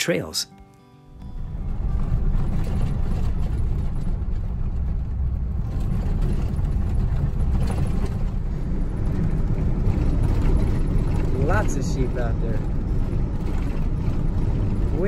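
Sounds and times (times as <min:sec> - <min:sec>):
car driving on gravel: 0:01.3 - 0:15.0.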